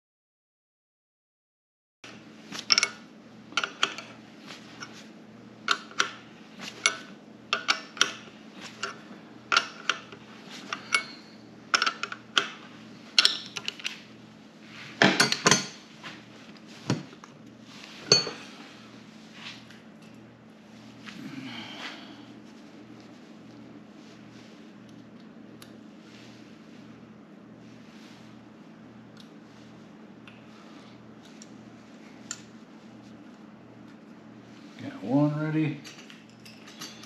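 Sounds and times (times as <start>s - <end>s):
steady low hum: 2.1s - 37.0s.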